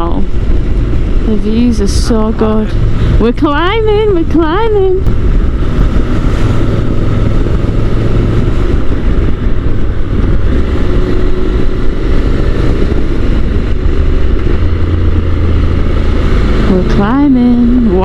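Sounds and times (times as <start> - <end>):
motorcycle engine pulling uphill: 0.0 - 18.0
wind rush on microphone: 0.0 - 18.0.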